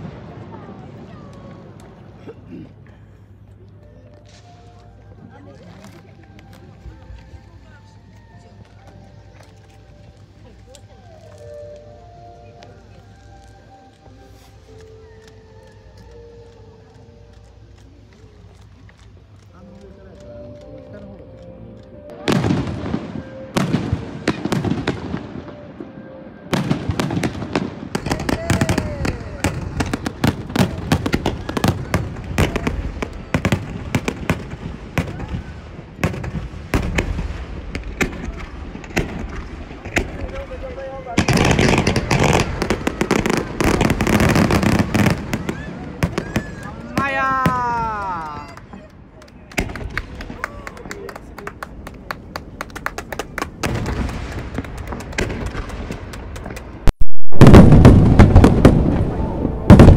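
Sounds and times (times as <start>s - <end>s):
continuous low rumble: 0.0s - 56.9s
fireworks crackling and popping: 0.0s - 59.9s.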